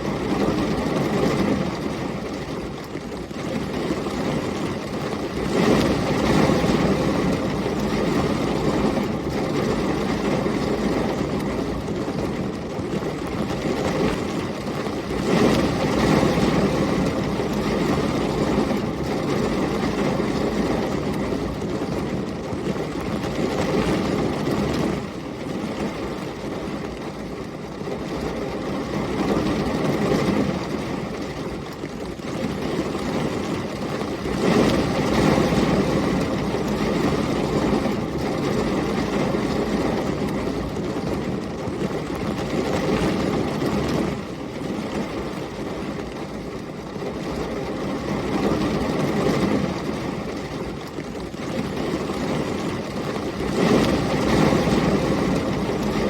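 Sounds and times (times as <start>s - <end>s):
gusting wind: 0.0s - 56.0s
heavy rain: 0.0s - 56.0s.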